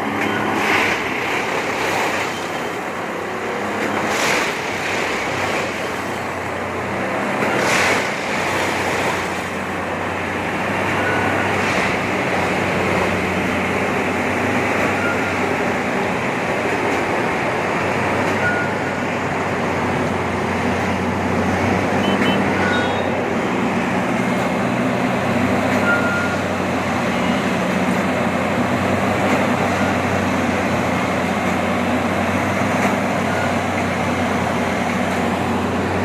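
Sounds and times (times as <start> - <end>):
diesel machinery running: 0.0 - 36.0.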